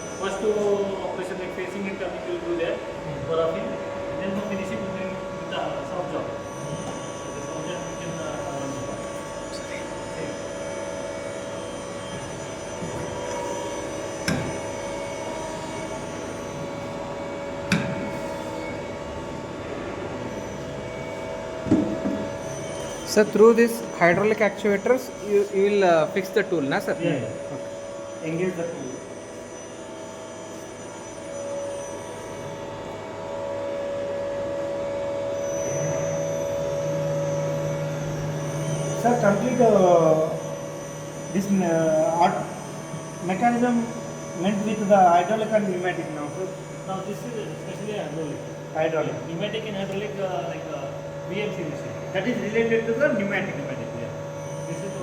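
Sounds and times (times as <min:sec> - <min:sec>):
machine hum and whine: 0:00.0 - 0:55.0.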